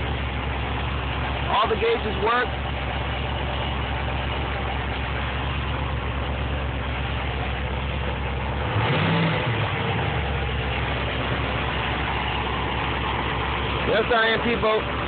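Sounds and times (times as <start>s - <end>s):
boat engine idling and revving: 0.0s - 15.0s.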